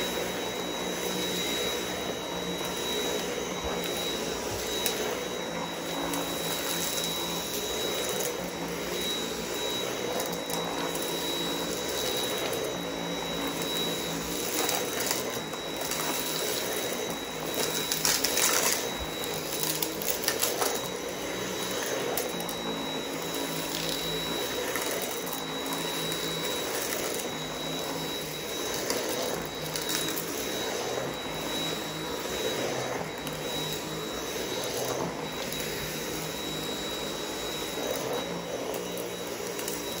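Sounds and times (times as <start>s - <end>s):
vacuum cleaner motor whine: 0.0s - 40.0s.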